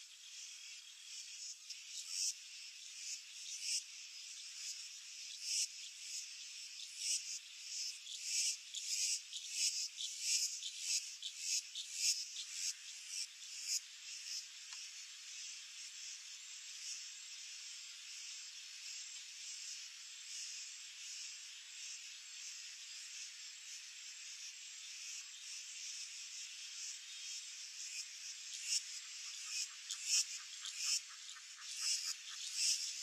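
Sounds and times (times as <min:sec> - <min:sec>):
insects chirping: 0:00.1 - 0:33.0.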